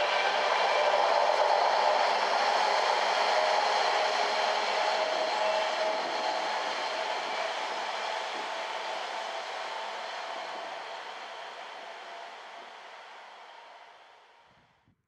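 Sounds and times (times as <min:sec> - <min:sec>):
freight train wheels rumbling: 0:00.0 - 0:13.8.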